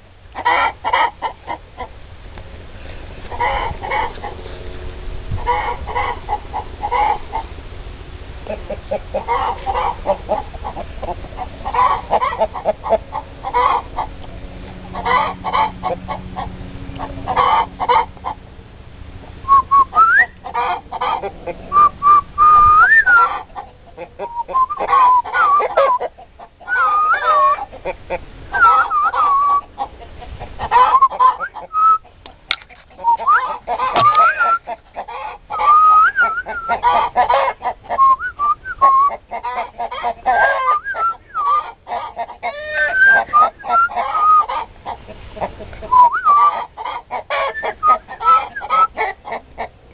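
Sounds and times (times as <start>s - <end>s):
chickens clucking: 0.0s - 18.6s, 19.2s - 49.9s
drawn-out wavering calls: 8.4s - 18.5s, 19.3s - 49.7s.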